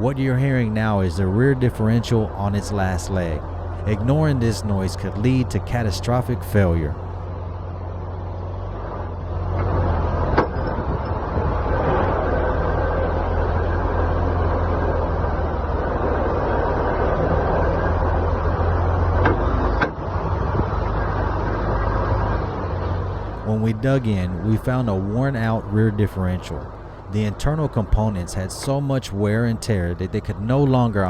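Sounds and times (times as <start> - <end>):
truck drivetrain droning: 0.0 - 31.0.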